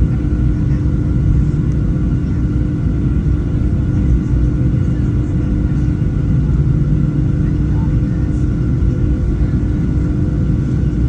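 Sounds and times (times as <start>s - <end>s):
airplane cabin rumble: 0.0s - 11.0s
jet engines humming: 0.0s - 11.0s.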